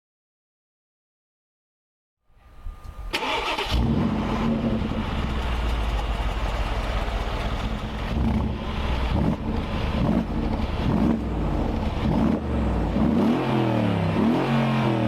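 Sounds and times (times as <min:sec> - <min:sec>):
car engine starting and idling: 0:02.8 - 0:15.0.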